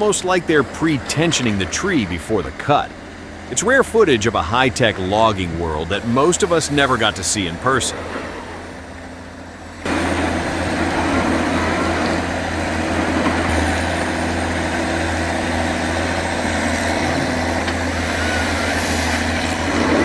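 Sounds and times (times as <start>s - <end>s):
heavy machine engine humming: 0.0s - 20.0s.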